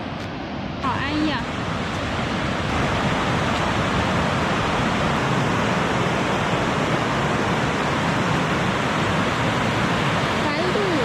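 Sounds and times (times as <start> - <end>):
water rushing over waterfall: 0.0 - 11.0.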